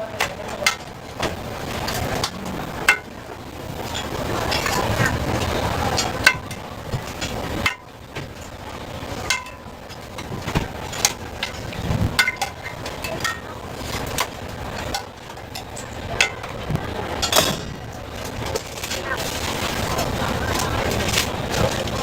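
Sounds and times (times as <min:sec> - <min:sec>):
metal utensils clinking: 0:00.0 - 0:22.0
steady hiss: 0:00.0 - 0:22.0.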